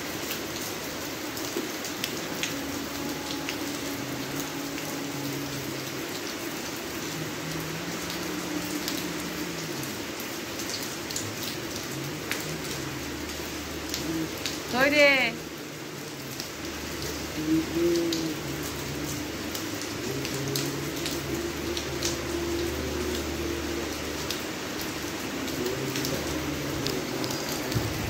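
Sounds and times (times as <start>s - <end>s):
rain on concrete and roofs: 0.0s - 28.0s
sharp drips: 0.2s - 28.0s.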